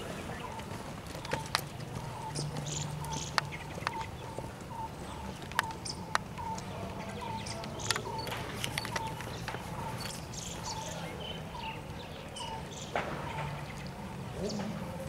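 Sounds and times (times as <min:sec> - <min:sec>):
birds chirping: 0:00.0 - 0:15.0
horse hooves trotting in sand: 0:00.0 - 0:15.0.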